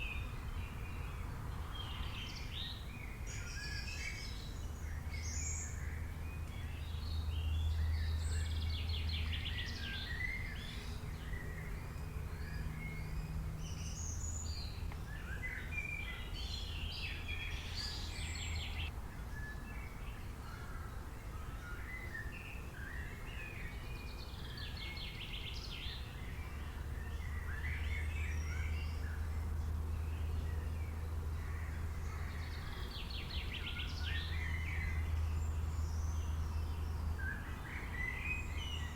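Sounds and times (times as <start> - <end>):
wild birds singing and calling: 0.0 - 38.9.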